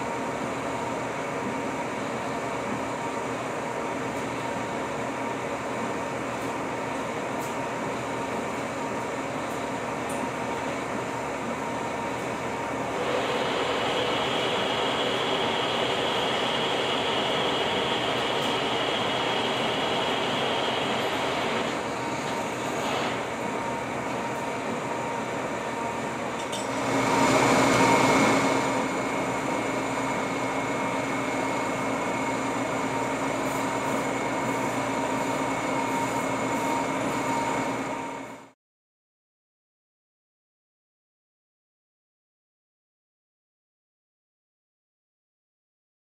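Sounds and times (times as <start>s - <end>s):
boring mill humming with gear whine: 0.0s - 38.6s.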